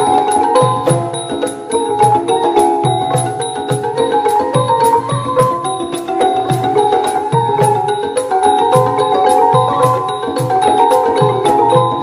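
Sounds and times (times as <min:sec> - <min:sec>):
mallet instrument melody: 0:00.0 - 0:12.0.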